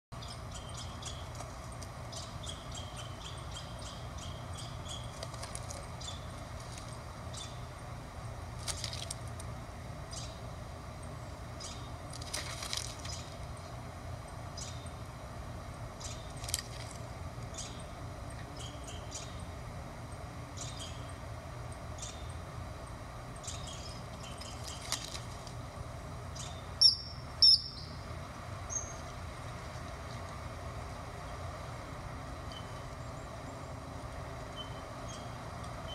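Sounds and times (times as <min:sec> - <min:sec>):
steady low hum: 0:00.1 - 0:35.9
small birds chirping: 0:00.2 - 0:08.0, 0:10.0 - 0:30.5, 0:31.1 - 0:35.9.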